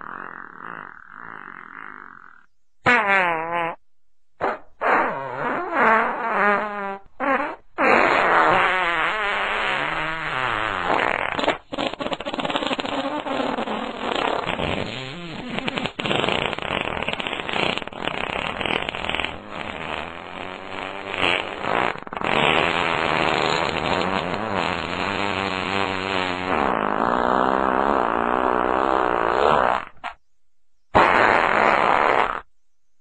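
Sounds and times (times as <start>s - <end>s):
long fart: 0.0s - 3.8s, 4.4s - 30.2s, 30.9s - 32.5s.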